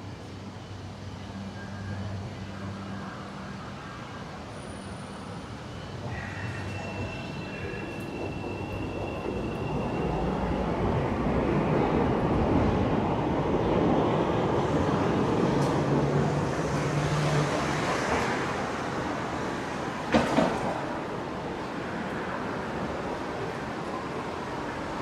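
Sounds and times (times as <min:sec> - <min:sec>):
passing train rumble: 0:00.0 - 0:25.0
traffic noise: 0:00.0 - 0:25.0.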